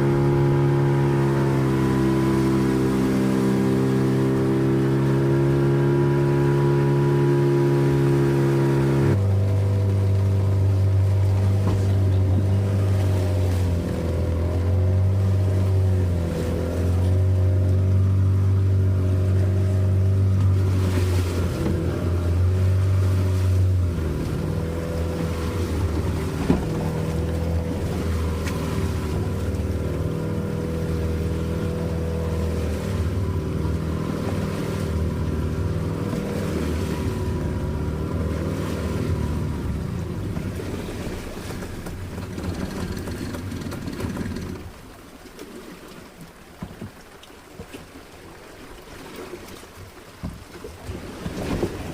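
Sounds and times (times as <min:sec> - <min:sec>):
boat motor running: 0:00.0 - 0:51.9.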